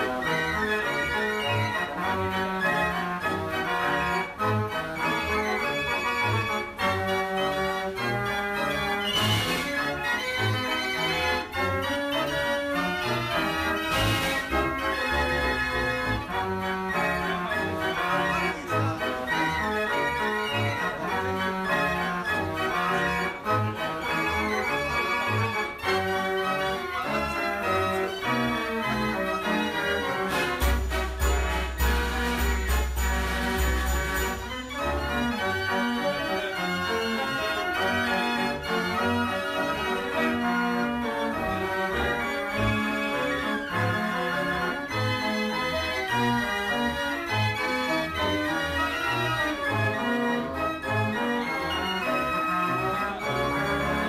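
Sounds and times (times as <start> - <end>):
fair organ playing a lively tune: 0.0 - 54.0.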